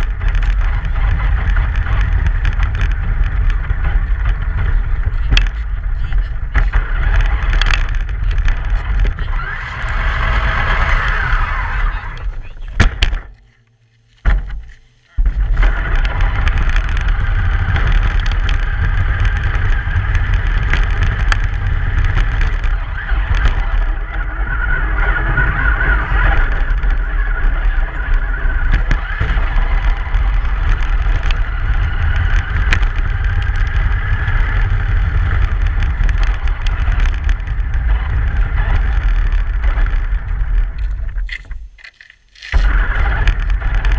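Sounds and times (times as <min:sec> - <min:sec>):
truck road noise rumble: 0:00.0 - 0:43.9.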